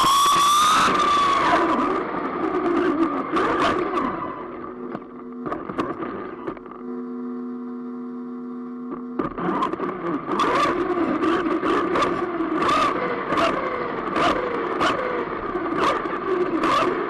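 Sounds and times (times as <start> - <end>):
rc car motor hum: 0.0 - 17.0.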